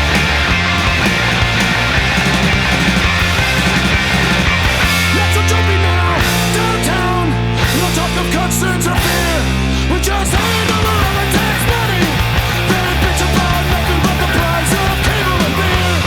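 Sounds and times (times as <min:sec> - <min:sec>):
heavy bass notes: 0:00.0 - 0:16.0
rock music with distorted guitar: 0:00.0 - 0:16.0.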